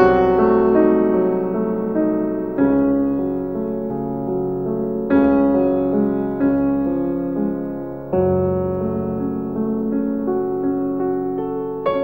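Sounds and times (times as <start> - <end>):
keyboard playing slow chords: 0.0 - 12.0.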